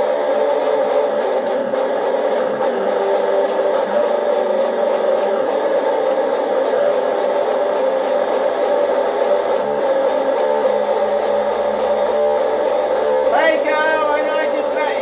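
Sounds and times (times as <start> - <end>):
electric guitar strummed hard: 0.0 - 15.0.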